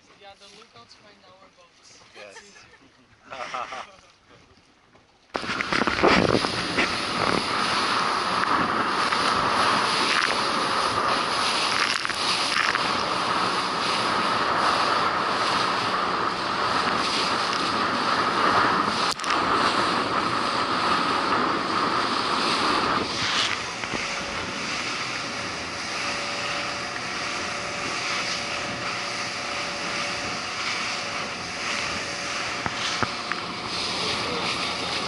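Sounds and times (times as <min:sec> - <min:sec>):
boat engine drone: 0:03.2 - 0:35.0
rushing water and spray: 0:05.3 - 0:35.0
wind on microphone: 0:05.4 - 0:35.0.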